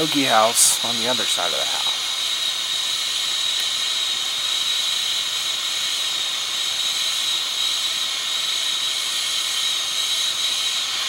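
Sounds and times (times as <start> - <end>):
high-pitched whistling gas hiss: 0.0 - 11.0.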